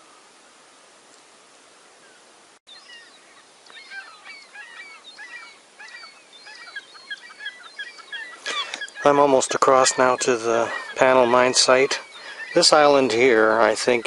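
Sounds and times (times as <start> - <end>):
faint background hiss: 0.0 - 14.0
gulls calling: 2.0 - 14.0.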